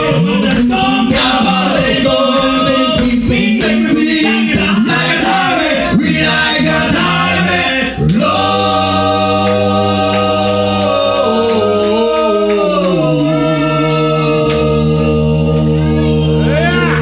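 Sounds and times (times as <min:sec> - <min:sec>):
male vocal quartet singing: 0:00.0 - 0:17.0.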